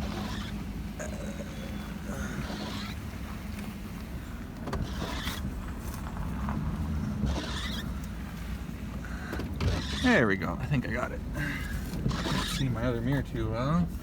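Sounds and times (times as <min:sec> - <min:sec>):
truck engine running in reverse: 0:00.0 - 0:14.0.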